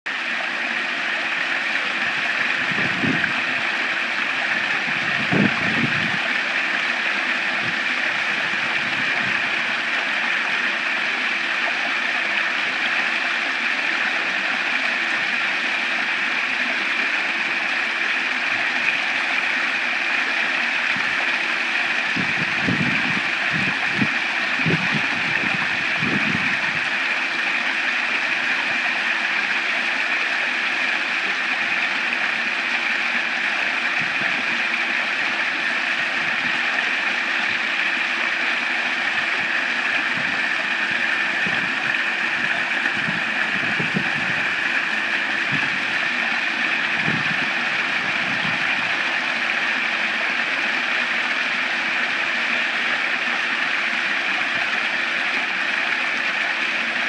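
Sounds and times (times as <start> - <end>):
water splashing over stones: 0.1 - 57.0.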